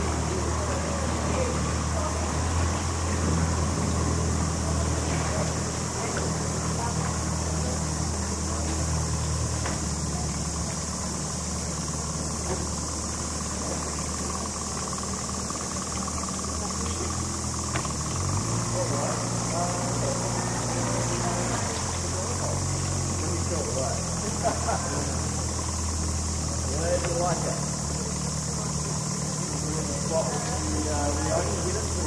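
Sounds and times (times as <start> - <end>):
outboard motor idling: 0.0 - 32.0.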